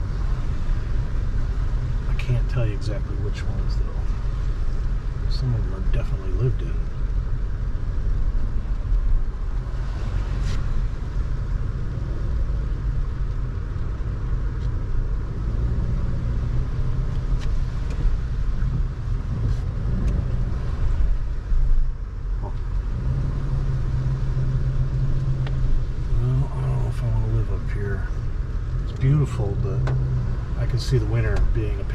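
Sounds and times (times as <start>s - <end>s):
car engine and tyres rumbling: 0.0s - 31.9s.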